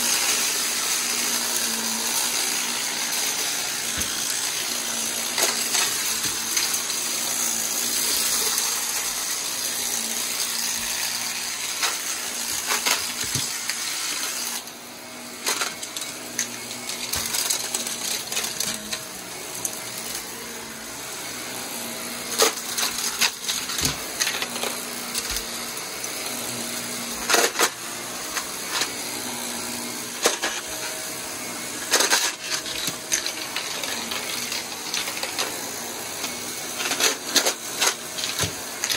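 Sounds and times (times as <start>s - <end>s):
vacuum cleaner running over carpet: 0.0s - 38.9s.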